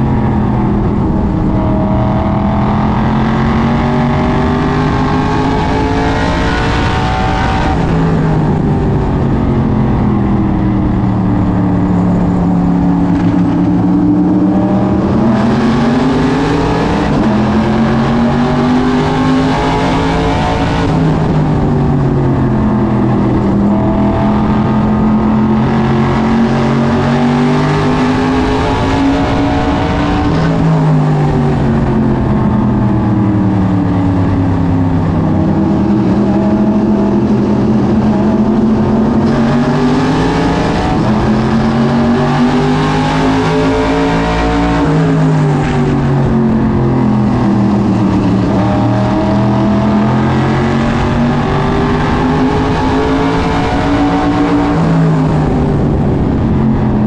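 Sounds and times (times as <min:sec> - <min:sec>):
other race car engines: 0:00.0 - 0:57.0
race car engine revving: 0:00.0 - 0:57.0.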